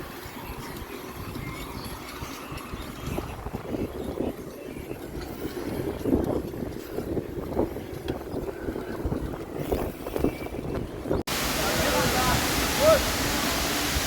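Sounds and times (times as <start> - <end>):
bicycle rumbling over rough ground: 0.0 - 13.6
wind on microphone: 0.0 - 14.0.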